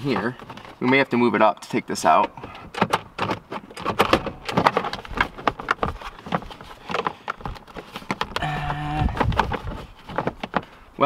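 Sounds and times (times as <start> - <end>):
plastic trim clicking and rattling: 0.0 - 10.8.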